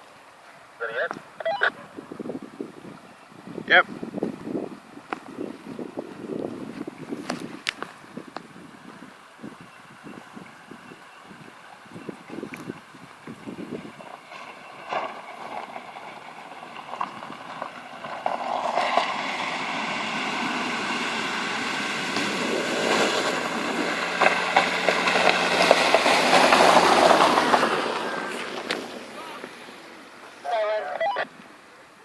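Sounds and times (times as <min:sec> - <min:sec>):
water splashing and rushing: 0:00.0 - 0:32.0.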